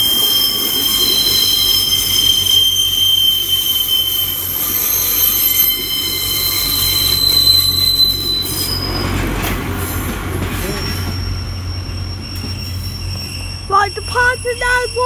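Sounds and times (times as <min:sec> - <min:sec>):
train rumbling: 0:00.0 - 0:15.0
train wheels squealing on rails: 0:00.0 - 0:15.0.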